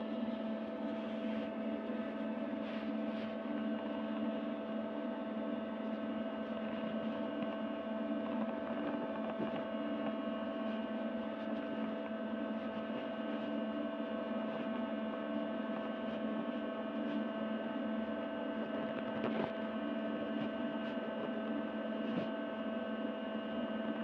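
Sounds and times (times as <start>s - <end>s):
steady hum of held tones: 0.0s - 24.0s.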